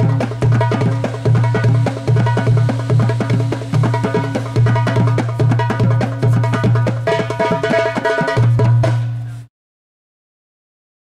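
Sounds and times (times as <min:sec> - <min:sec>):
fast drum rhythm: 0:00.0 - 0:09.4.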